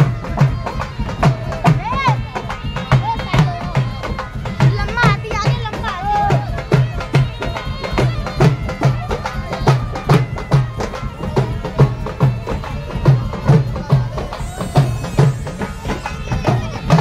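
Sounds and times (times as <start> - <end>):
drums beating steady rhythm: 0.0 - 17.0
reedy snake charmer pipe melody: 0.0 - 17.0.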